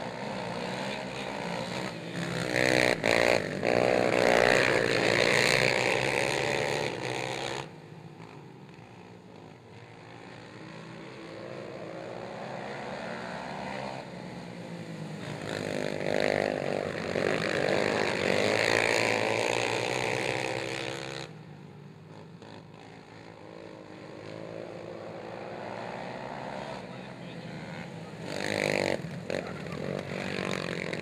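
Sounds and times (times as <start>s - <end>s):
quad engines revving: 0.0s - 31.0s.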